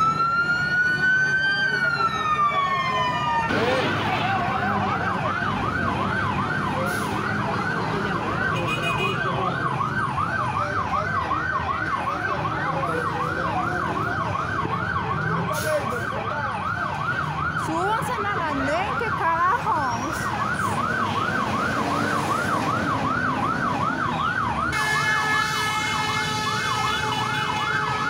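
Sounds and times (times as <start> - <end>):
emergency siren yelping: 0.0 - 28.0
street and crowd noise: 0.0 - 28.0.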